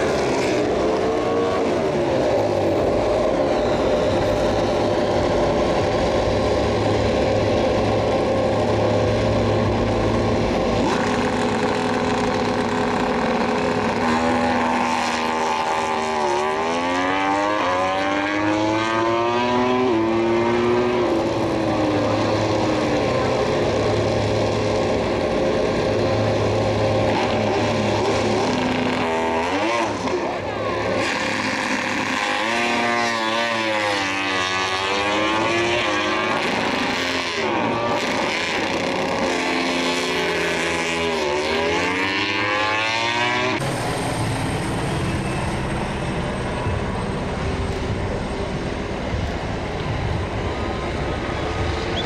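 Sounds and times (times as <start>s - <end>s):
racing motorcycle engines revving: 0.0s - 52.0s.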